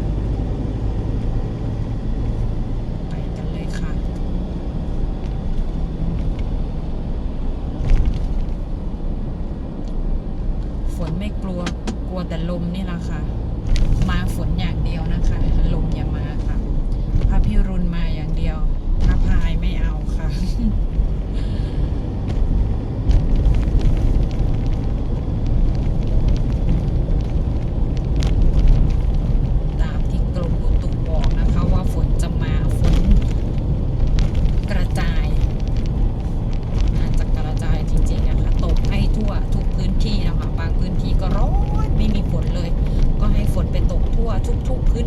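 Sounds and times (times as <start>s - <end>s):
car engine and tyres rumbling: 0.0s - 45.0s
gusty wind buffeting microphone: 0.0s - 45.0s.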